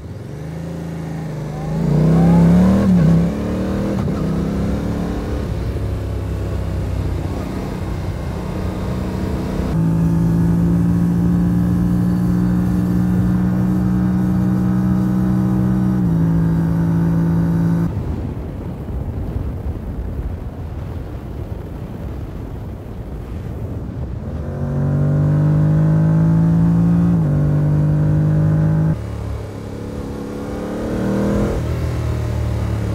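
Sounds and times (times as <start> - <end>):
motorcycle engine revving: 0.0 - 17.9, 24.2 - 32.9
wind and road rush: 0.0 - 32.9.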